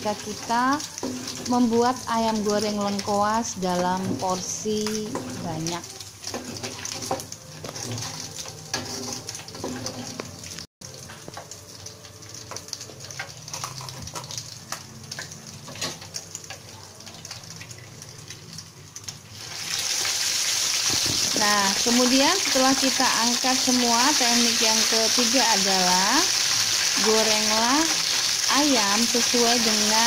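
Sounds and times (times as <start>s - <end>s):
hot oil sizzling in a wok: 0.0s - 30.0s.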